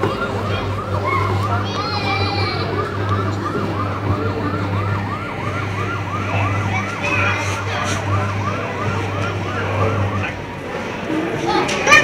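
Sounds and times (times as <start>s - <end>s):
toy fire truck siren warbling: 0.0s - 10.6s
steady low hum: 0.0s - 11.5s.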